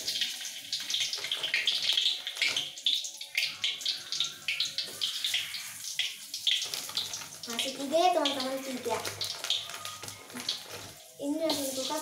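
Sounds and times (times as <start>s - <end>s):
food sizzling in hot oil: 0.0s - 12.0s
oil crackling pops: 0.0s - 12.0s.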